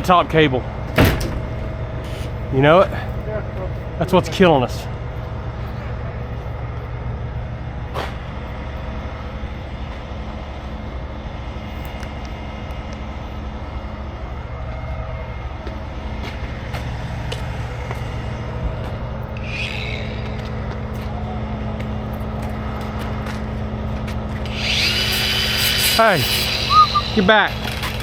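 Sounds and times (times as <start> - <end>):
diesel truck engine running: 0.0 - 25.5.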